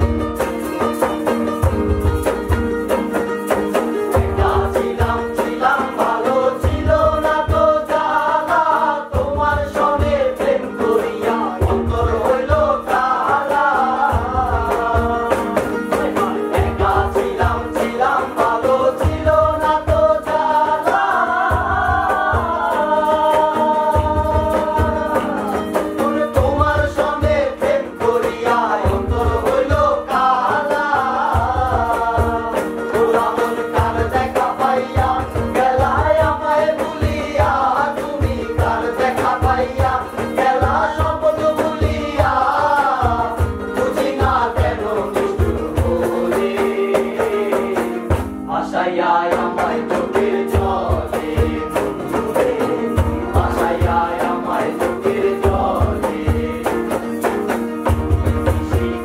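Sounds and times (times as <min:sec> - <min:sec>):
hand drum beating: 0:00.0 - 0:48.5, 0:49.3 - 0:59.0
strummed guitar and ukulele: 0:00.0 - 0:59.0
men singing together: 0:03.1 - 0:59.0.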